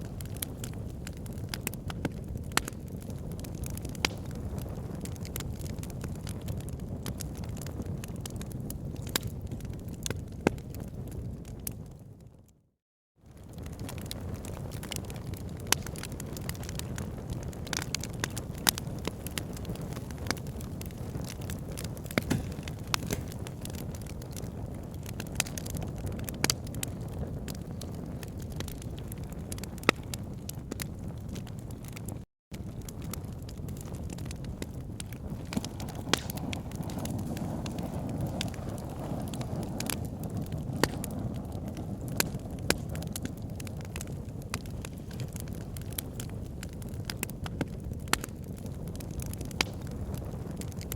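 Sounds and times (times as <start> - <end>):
wood popping and crackling: 0.0 - 11.9, 13.3 - 50.9
low rush of flames: 0.0 - 12.6, 13.2 - 50.9.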